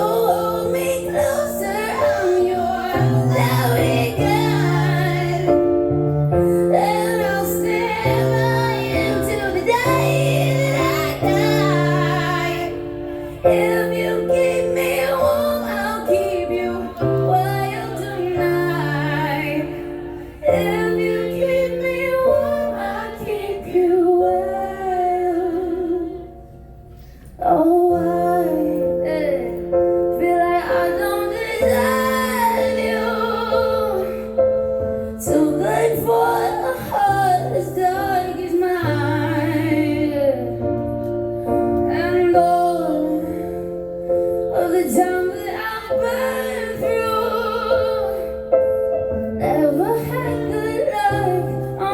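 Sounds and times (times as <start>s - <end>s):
woman singing: 0.0s - 5.7s, 6.5s - 26.4s, 27.4s - 34.4s, 35.2s - 40.8s, 41.8s - 48.4s, 49.4s - 51.9s
piano chords: 0.0s - 51.9s.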